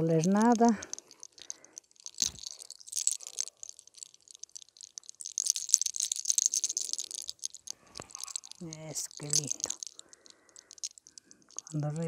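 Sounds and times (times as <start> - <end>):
hair crackling and rustling: 0.0 - 12.0.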